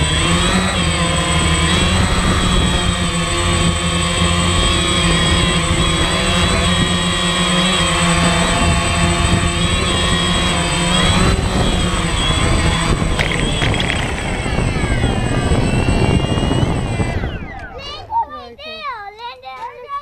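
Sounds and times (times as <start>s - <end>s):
drone propellers buzzing: 0.0s - 18.8s.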